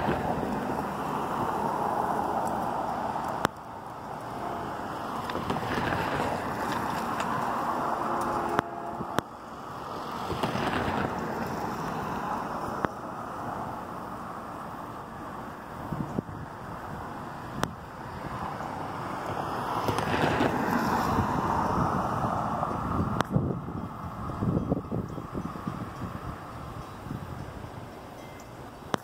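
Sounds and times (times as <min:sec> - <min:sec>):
wind buffeting microphone: 0:00.0 - 0:09.2, 0:09.9 - 0:13.9, 0:15.1 - 0:29.0.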